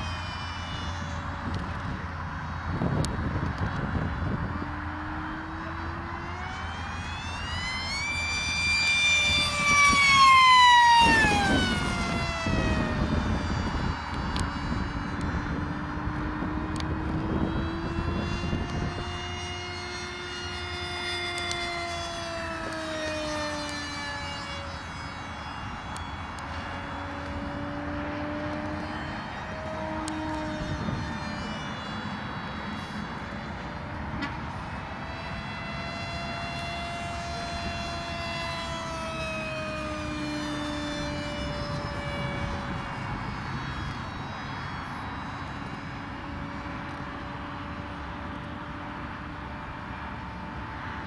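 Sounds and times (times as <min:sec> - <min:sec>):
model jet motor whine: 0:00.0 - 0:51.0.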